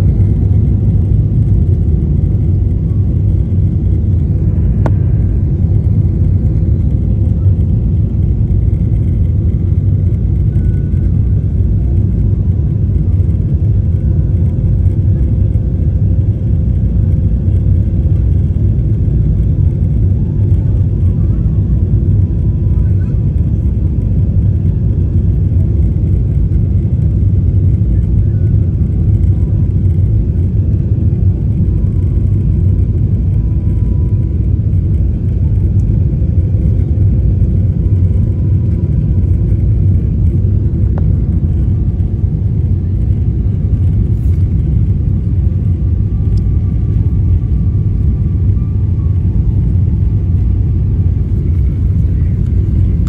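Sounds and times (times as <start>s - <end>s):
jet airliner cabin rumble: 0.0s - 53.0s.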